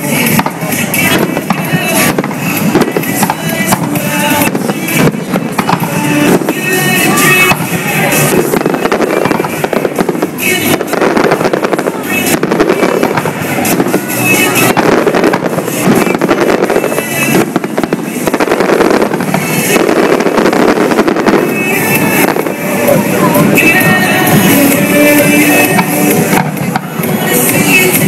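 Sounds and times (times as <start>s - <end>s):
fireworks bursting and crackling: 0.0s - 28.0s
music playing: 0.0s - 28.0s.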